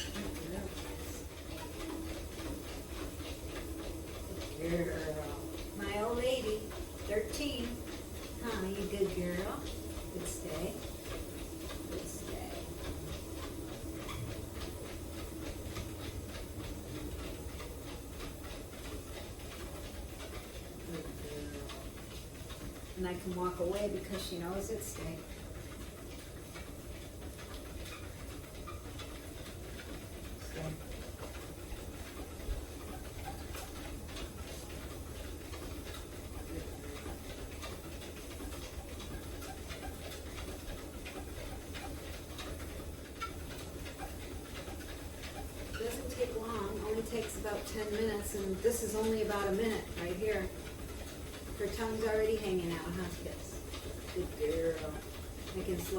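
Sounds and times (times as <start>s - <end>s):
dog paws on treadmill belt: 0.0s - 55.9s
treadmill motor humming: 0.0s - 55.9s.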